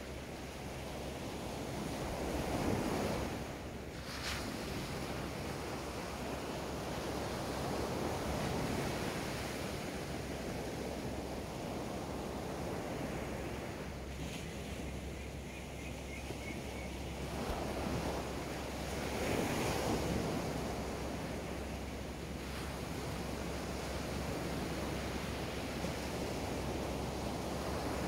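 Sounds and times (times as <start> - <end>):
surf washing up a sandy beach: 0.0 - 28.0.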